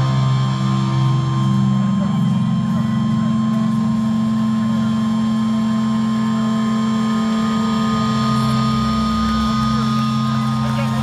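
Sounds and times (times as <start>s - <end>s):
distorted guitars holding a chord: 0.0s - 11.0s.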